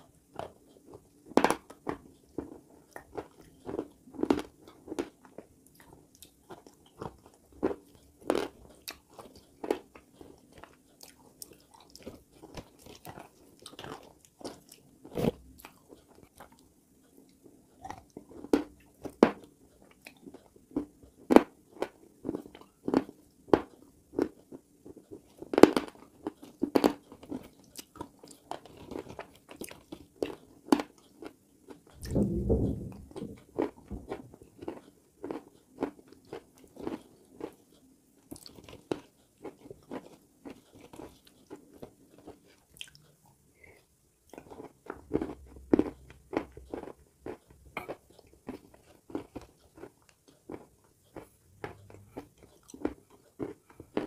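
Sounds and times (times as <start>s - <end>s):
chewing brittle clay crunches: 0.3s - 16.6s, 17.3s - 32.2s, 33.2s - 54.0s.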